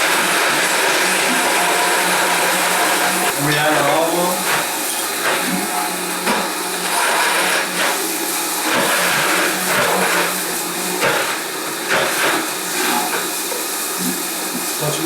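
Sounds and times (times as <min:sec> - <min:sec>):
blender running: 0:00.0 - 0:15.0.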